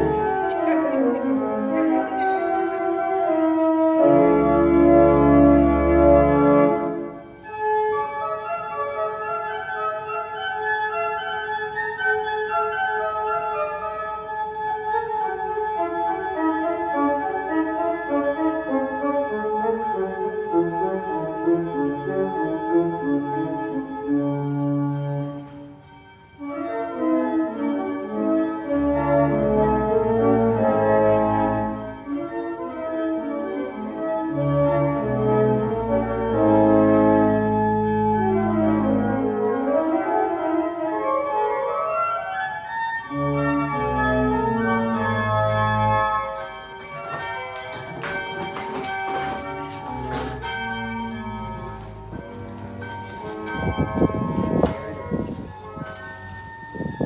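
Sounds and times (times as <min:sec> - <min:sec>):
church organ playing: 0:00.0 - 0:57.0.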